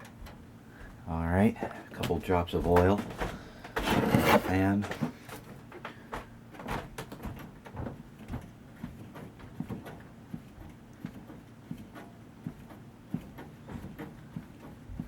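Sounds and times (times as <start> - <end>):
clicks and knocks of handling: 1.6 - 15.0.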